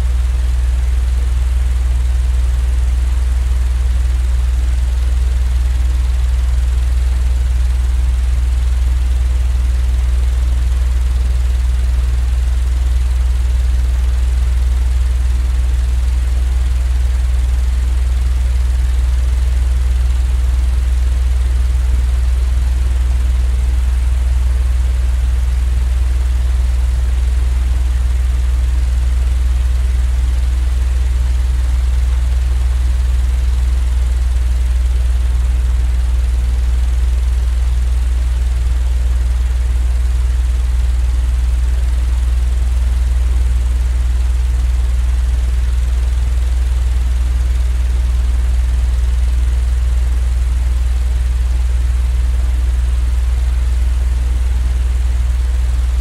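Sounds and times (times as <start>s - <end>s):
low droning machine hum: 0.0s - 56.0s.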